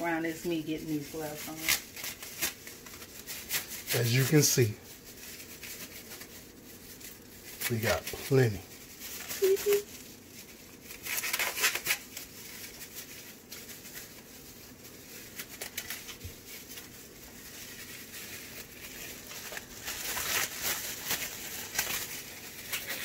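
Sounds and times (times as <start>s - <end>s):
plastic gloves crinkling: 0.0s - 23.0s.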